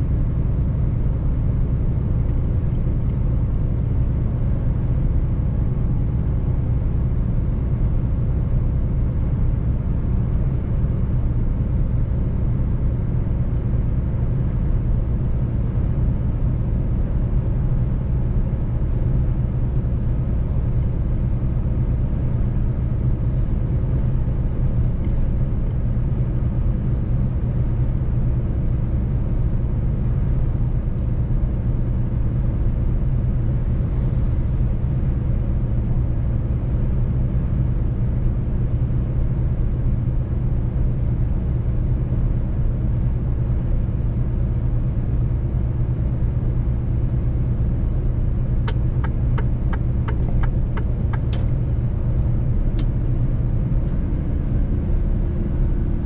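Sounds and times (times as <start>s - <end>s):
road rumble: 0.0s - 56.0s
truck diesel engine cruising: 0.0s - 56.0s.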